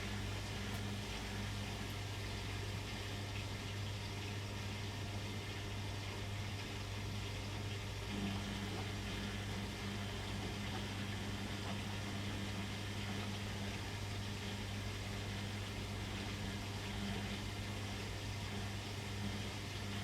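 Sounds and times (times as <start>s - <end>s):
washing machine low hum: 0.0s - 20.0s.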